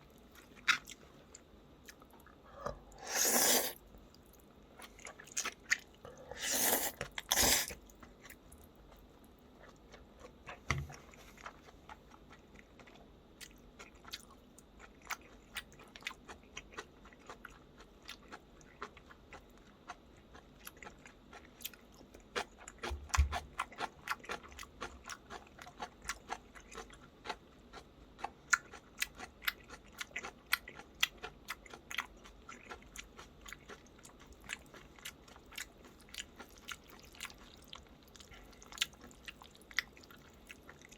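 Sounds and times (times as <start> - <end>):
person chewing and crunching food: 0.0 - 40.9.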